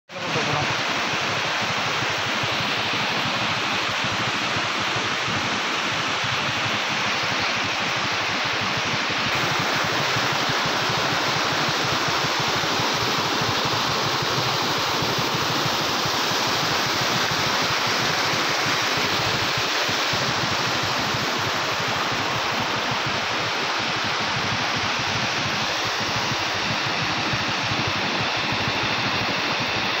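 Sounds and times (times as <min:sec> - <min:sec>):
water rushing through sluice gates: 0:00.1 - 0:30.0.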